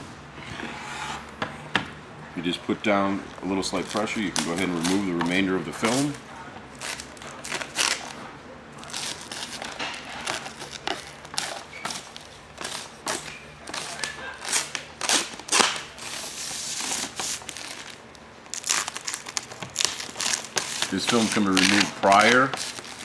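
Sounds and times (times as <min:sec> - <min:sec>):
plastic film crinkling: 0:03.3 - 0:23.0.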